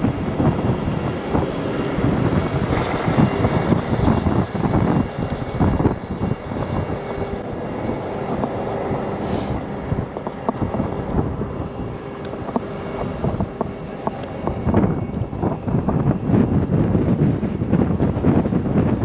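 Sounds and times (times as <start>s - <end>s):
diesel truck engine running: 0.0s - 18.0s
wind buffeting microphone: 0.0s - 19.0s.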